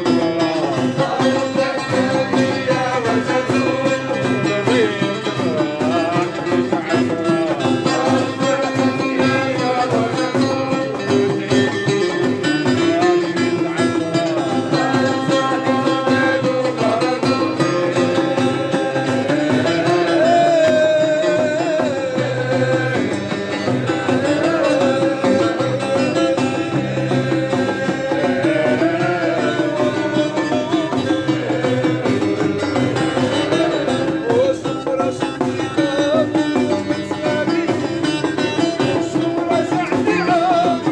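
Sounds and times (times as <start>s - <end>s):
hand drums: 0.0s - 40.9s
plucked strings: 0.0s - 40.9s.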